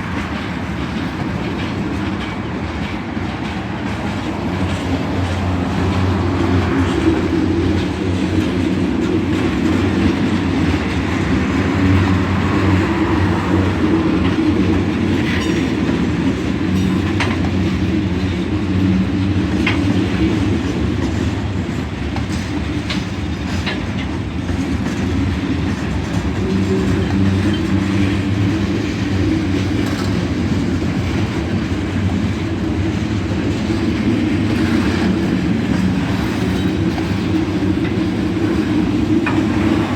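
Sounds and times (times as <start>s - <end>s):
freight train rumbling past: 0.0s - 39.9s
wheel clatter over rail joints: 0.0s - 39.9s.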